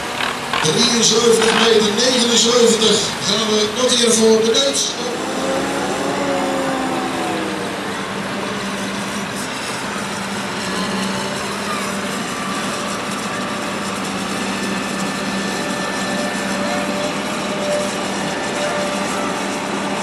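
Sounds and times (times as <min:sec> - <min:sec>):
tractor engine under heavy load: 0:00.0 - 0:20.0.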